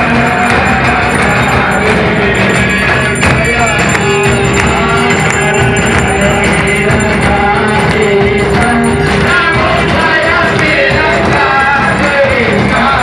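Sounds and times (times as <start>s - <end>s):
devotional singing: 0.0s - 13.0s
steady percussion: 0.0s - 13.0s.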